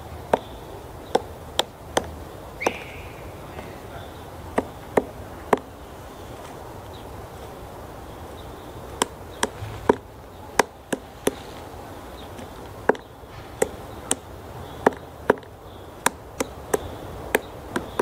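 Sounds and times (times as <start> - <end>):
woodpecker pecking wood: 0.0 - 7.6, 8.3 - 18.0.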